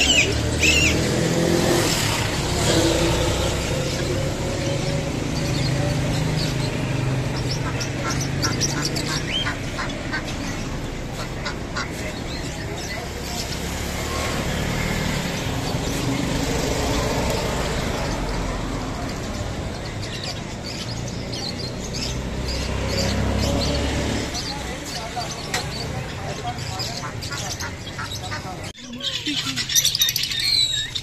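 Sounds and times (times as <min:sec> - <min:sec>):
caged birds chirping: 0:00.0 - 0:31.0.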